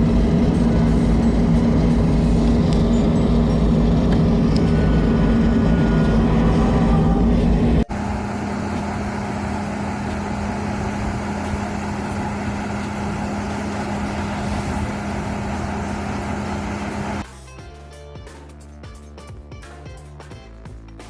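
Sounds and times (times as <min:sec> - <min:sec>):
large engine droning: 0:00.0 - 0:17.4.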